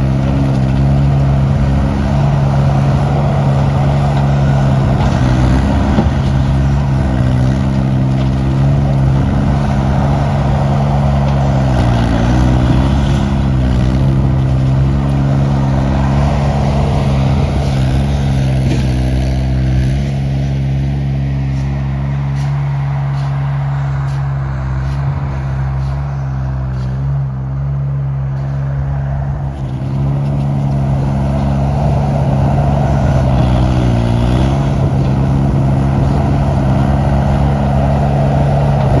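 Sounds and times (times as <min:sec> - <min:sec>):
loader engine running: 0:00.0 - 0:39.0.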